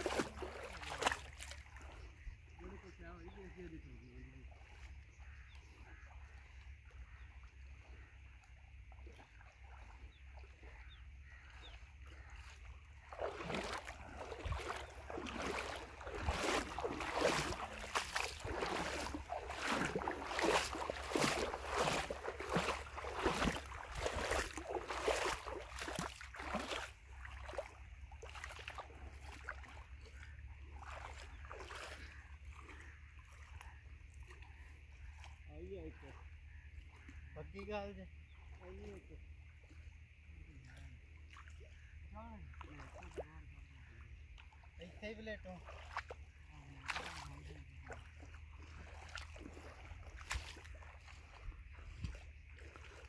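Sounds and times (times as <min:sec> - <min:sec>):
water splashing around wading person: 0:00.0 - 0:53.0.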